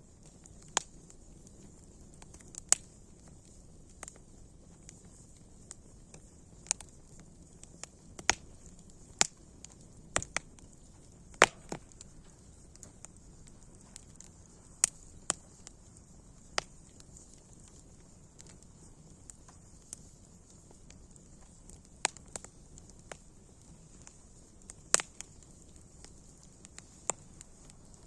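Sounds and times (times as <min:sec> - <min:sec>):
campfire wood crackling and popping: 0:00.0 - 0:28.0
faint steady hiss: 0:00.0 - 0:28.0.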